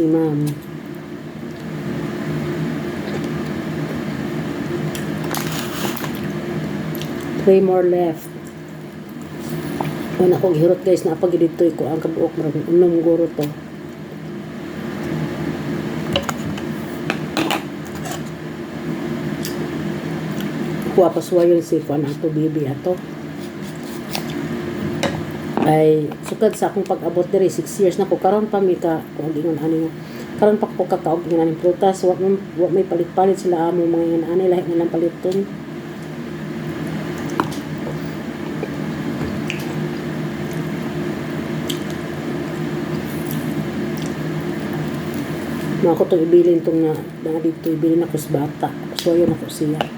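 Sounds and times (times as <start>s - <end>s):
low background hum: 0.0s - 49.9s.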